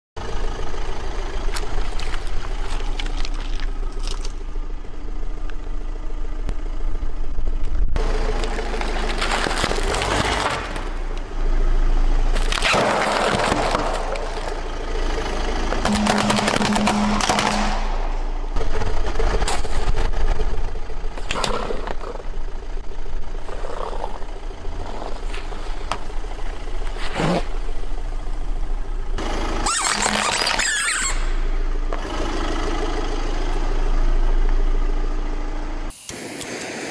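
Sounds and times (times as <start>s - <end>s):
car engine running: 0.2s - 35.9s.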